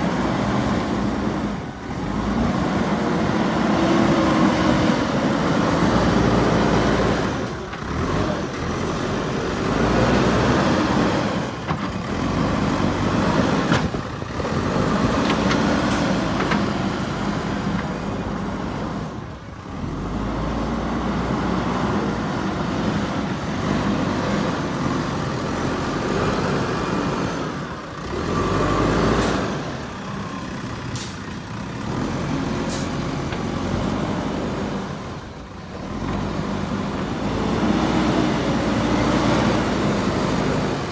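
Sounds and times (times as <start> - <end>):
diesel engine working under load: 0.0 - 40.9.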